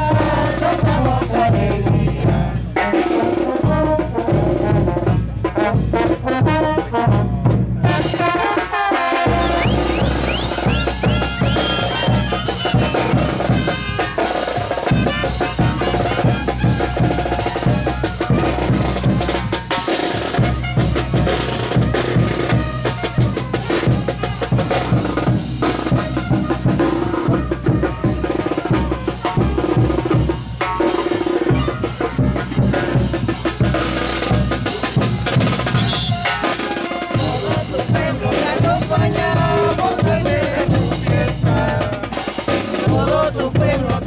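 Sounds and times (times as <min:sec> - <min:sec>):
drums keeping dance beat: 0:00.0 - 0:44.0
live band dance music: 0:00.0 - 0:44.0.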